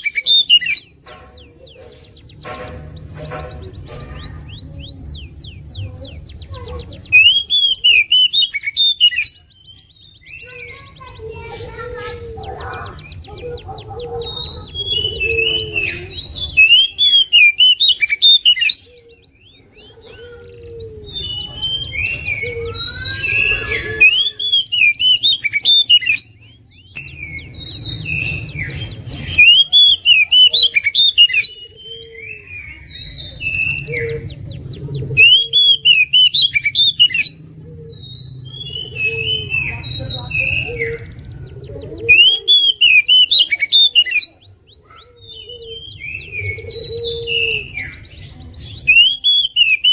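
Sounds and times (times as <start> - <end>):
bird singing whistled phrases: 0.0 - 49.9.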